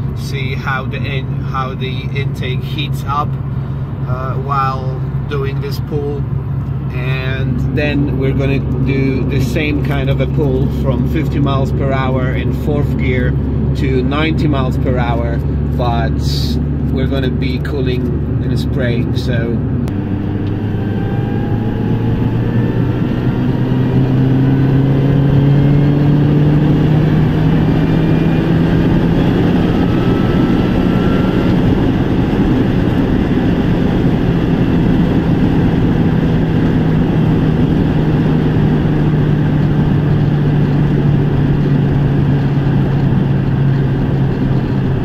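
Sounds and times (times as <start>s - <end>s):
car engine accelerating: 0.0s - 45.0s
road noise: 0.0s - 45.0s.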